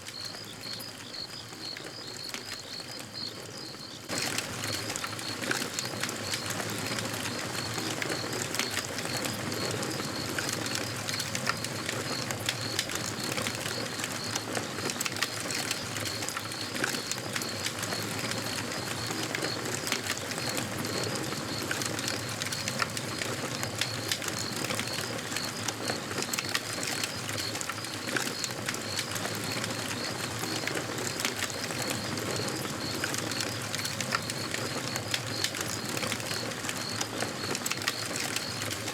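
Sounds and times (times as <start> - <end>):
campfire crackling and popping: 0.1 - 38.9.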